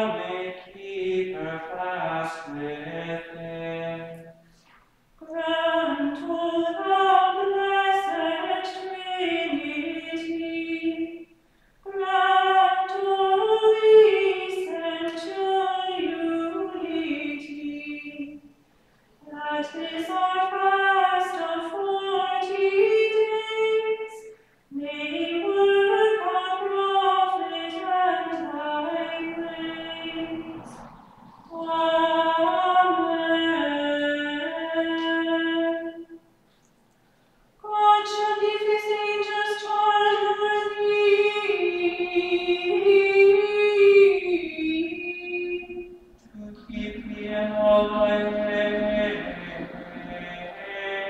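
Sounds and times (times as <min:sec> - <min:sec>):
woman singing a chant: 0:00.0 - 0:04.2, 0:05.2 - 0:18.5, 0:19.2 - 0:36.1, 0:37.6 - 0:51.0.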